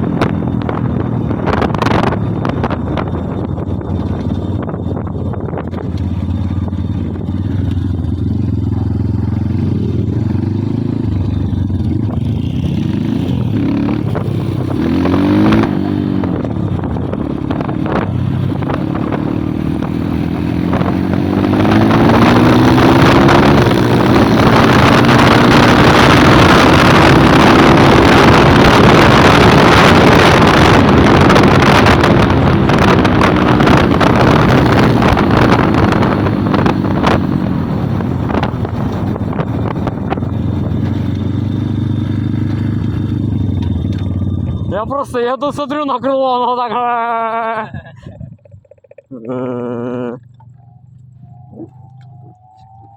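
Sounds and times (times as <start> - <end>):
wind on microphone: 0.0 - 44.7, 47.6 - 48.8
motorbike engine revving: 0.0 - 44.9, 47.1 - 52.9.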